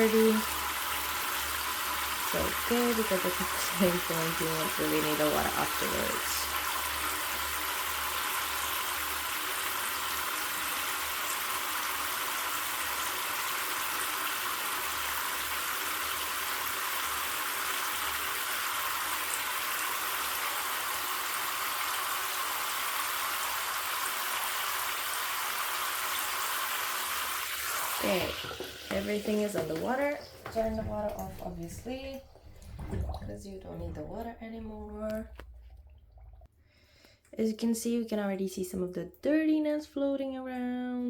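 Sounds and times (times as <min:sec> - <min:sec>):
tap water pouring into bucket: 0:00.0 - 0:36.5.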